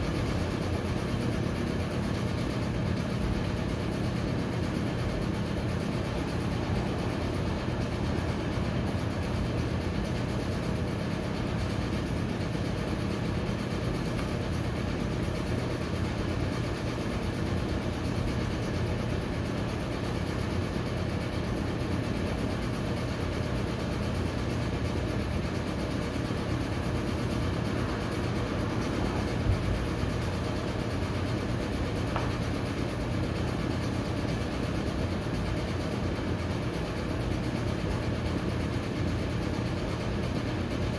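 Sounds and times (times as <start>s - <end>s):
low mechanical hum: 0.0s - 40.9s.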